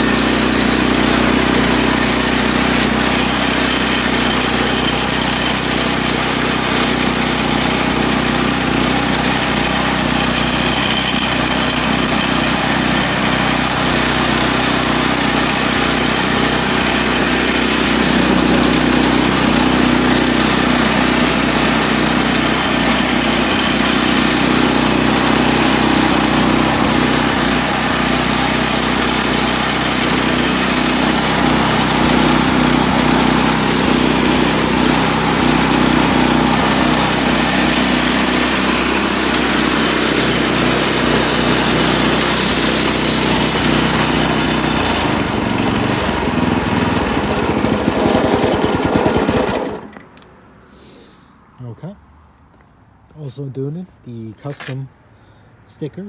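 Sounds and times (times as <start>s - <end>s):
snowblower engine running: 0.0s - 51.0s.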